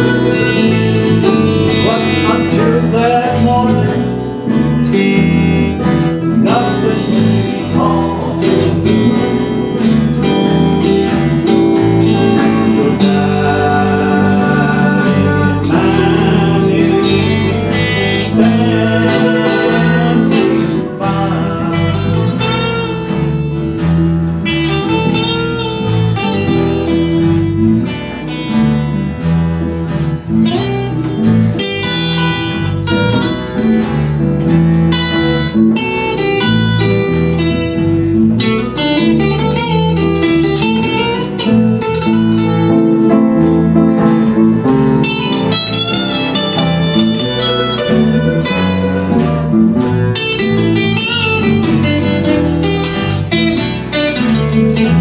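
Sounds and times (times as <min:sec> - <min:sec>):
guitars and bass: 0:00.0 - 0:55.0
mandolin picked: 0:00.0 - 0:55.0.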